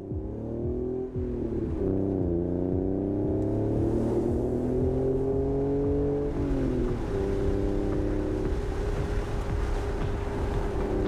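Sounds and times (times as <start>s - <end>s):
car engine and exhaust: 0.0s - 11.0s.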